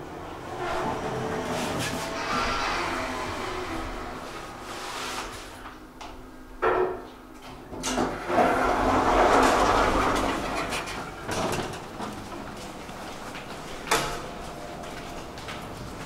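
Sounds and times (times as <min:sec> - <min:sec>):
elevator doors sliding: 0:00.0 - 0:06.0, 0:07.7 - 0:16.0.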